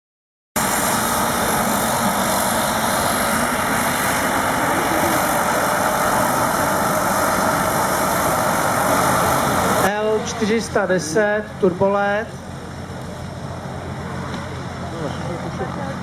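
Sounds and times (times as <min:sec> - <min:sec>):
turboprop engines running: 0:00.6 - 0:16.0.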